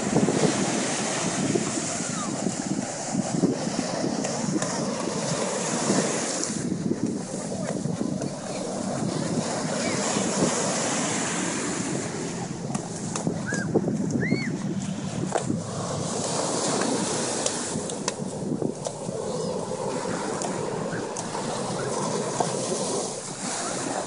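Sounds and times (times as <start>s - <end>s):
ocean surf washing up: 0.0s - 24.0s
wind buffeting microphone: 0.0s - 24.0s.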